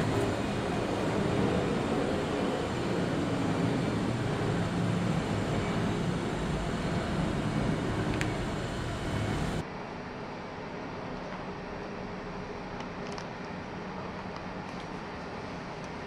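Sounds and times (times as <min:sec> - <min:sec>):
low mechanical hum with hiss: 0:00.0 - 0:16.0.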